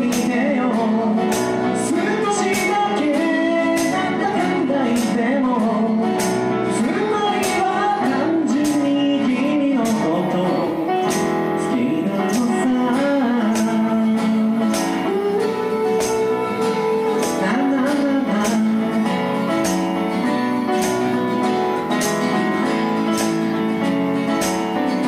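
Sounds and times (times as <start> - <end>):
acoustic guitar strumming: 0.0 - 25.0
electric keyboard: 0.0 - 25.0.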